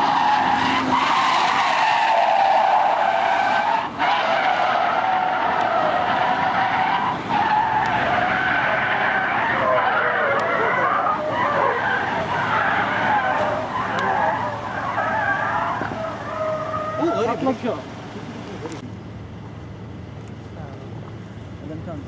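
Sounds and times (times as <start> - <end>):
car tyres squealing: 0.0 - 18.8.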